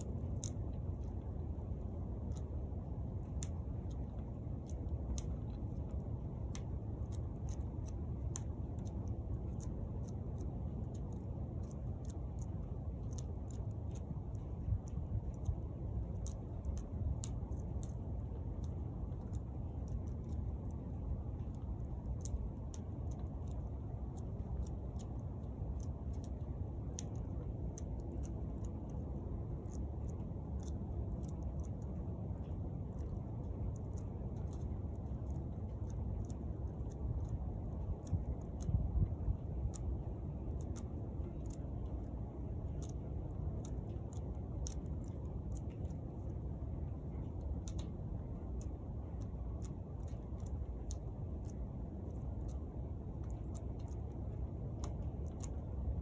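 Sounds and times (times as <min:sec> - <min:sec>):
faint sharp clicks: 0:00.0 - 0:56.0
steady low rumble: 0:00.0 - 0:56.0.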